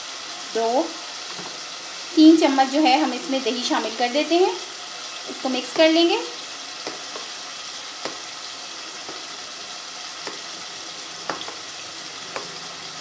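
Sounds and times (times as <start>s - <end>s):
beef sizzling in fat: 0.0s - 13.0s.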